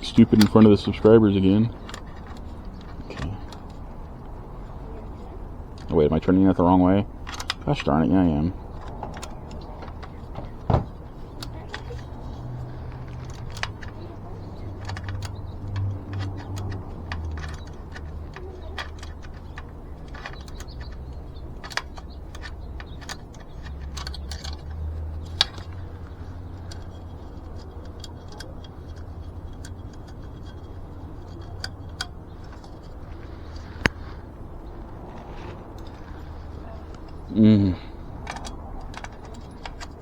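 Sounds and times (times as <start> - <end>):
light metallic clicks and taps: 0.0 - 6.3, 7.1 - 40.0
steady low hum: 0.0 - 40.0.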